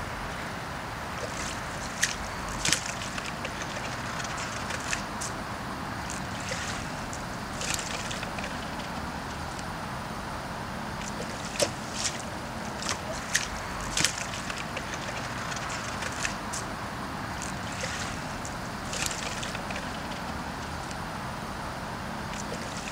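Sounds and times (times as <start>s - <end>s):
water lapping against boat: 0.0s - 9.9s, 10.8s - 22.9s
small splashes: 1.0s - 5.4s, 6.0s - 9.6s, 11.0s - 21.0s, 22.3s - 22.9s.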